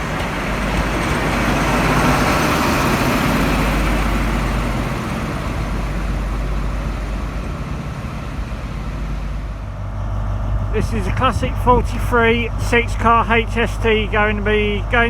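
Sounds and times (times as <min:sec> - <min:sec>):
diesel train engine running: 0:00.0 - 0:15.0.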